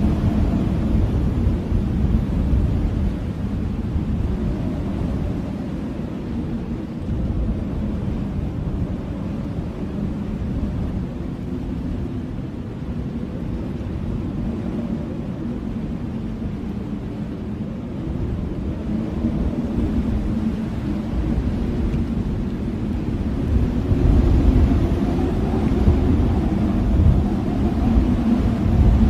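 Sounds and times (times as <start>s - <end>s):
blizzard wind rushing: 0.0s - 29.0s.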